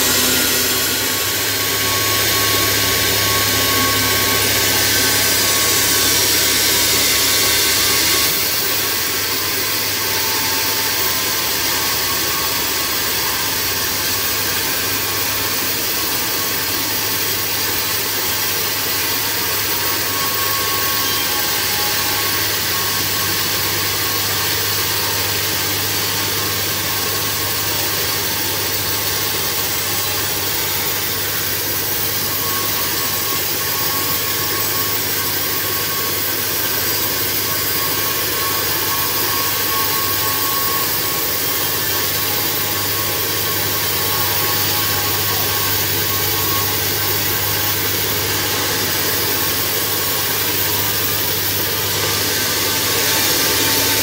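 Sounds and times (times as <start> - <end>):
bandsaw cutting through log: 0.0 - 54.0.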